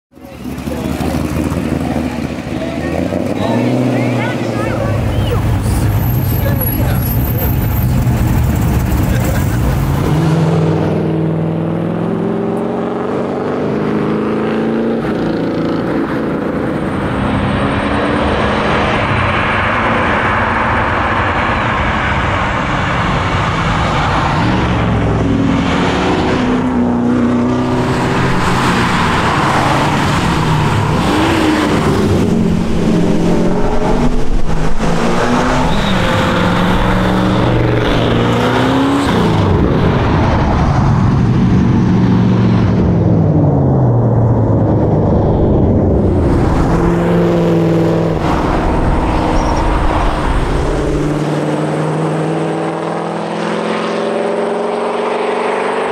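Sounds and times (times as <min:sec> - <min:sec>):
engine revving through gears: 0:00.5 - 0:21.7, 0:23.2 - 0:55.9.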